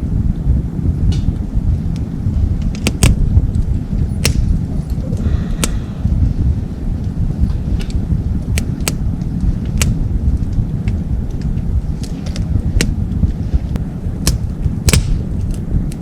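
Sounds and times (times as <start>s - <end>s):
low rumble of stove: 0.0s - 16.0s
wood fire crackling: 0.0s - 16.0s.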